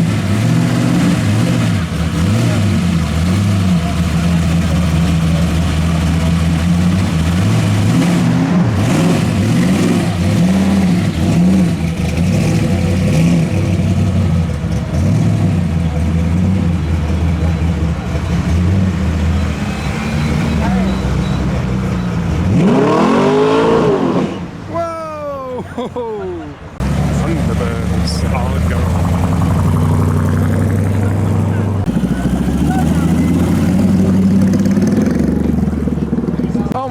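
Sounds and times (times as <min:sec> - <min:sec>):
car engines idling and revving: 0:00.0 - 0:36.9.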